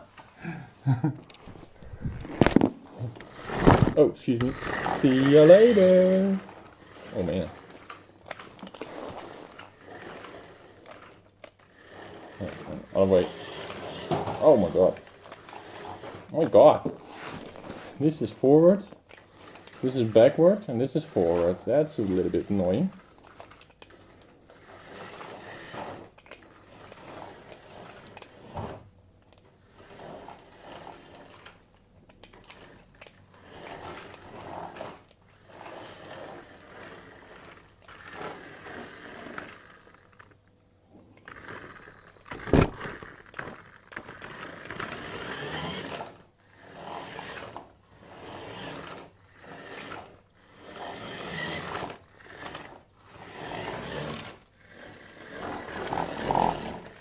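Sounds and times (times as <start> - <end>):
toy truck motor whirring: 0.0 - 57.0.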